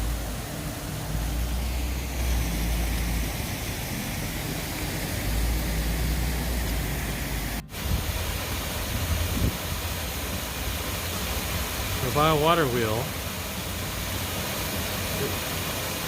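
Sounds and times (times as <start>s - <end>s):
water rushing over water wheel: 0.0s - 16.0s.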